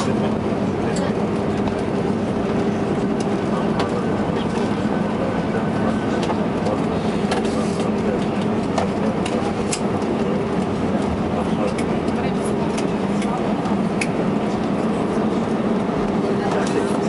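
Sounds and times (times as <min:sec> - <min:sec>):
aircraft cabin engine rush: 0:00.0 - 0:17.0.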